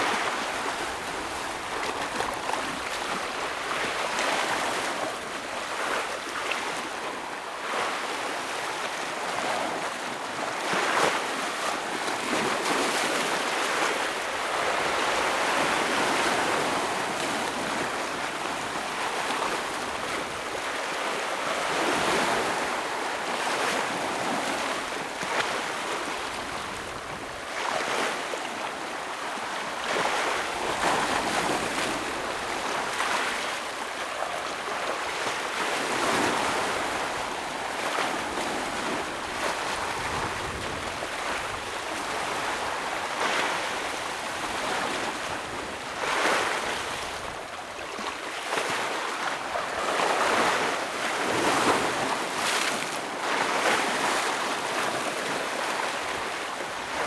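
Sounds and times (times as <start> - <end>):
ocean waves breaking on rocks: 0.0 - 57.0.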